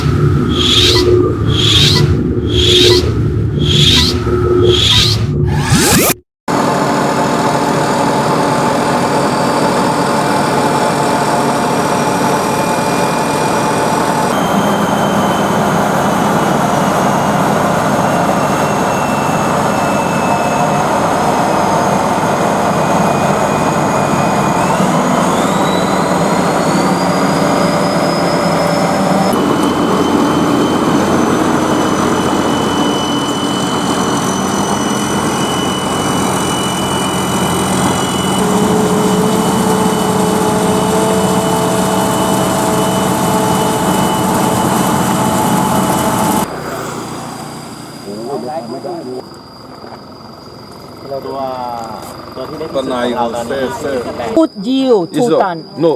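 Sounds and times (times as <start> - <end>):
combine harvester engine drone: 0.0 - 55.9
high machinery whines: 0.0 - 55.9.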